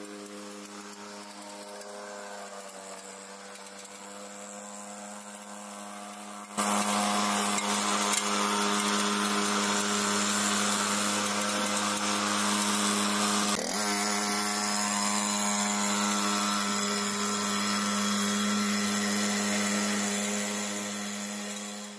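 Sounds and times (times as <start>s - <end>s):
small engine running steadily: 0.0s - 21.9s.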